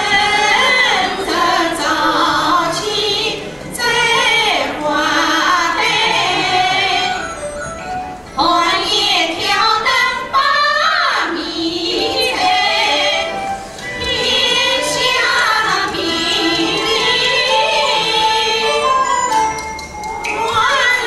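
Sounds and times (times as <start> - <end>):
women singing opera: 0.0 - 7.3, 8.4 - 19.5, 20.3 - 21.0
instrumental accompaniment: 0.0 - 21.0.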